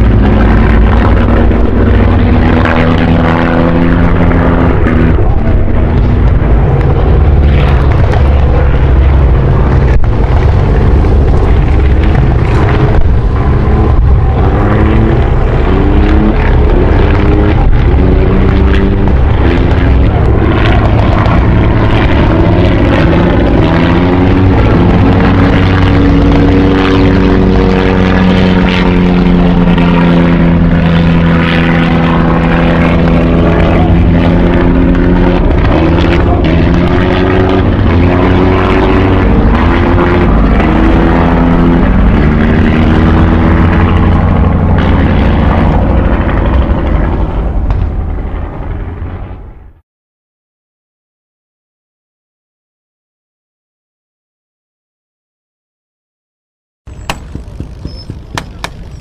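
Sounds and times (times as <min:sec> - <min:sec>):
propeller plane engines droning: 0:00.0 - 0:49.7, 0:56.9 - 0:59.0
heavy low rumble: 0:00.0 - 0:49.8, 0:56.9 - 0:59.0.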